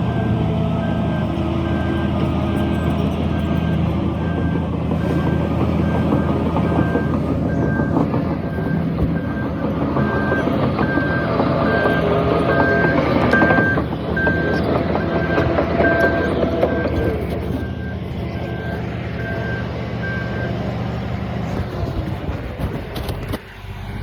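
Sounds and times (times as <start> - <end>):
diesel engine drone: 0.0 - 24.0
backup alarm beeping: 0.1 - 20.7.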